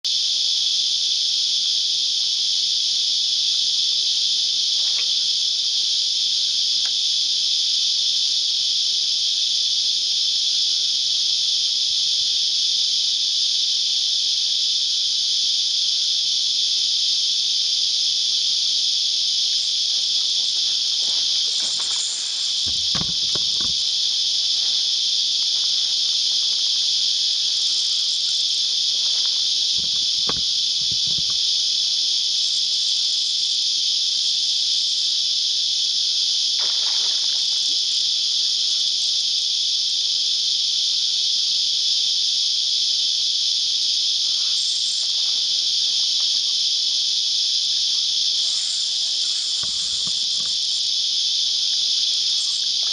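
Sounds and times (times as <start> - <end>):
cicada chorus: 0.0 - 52.9.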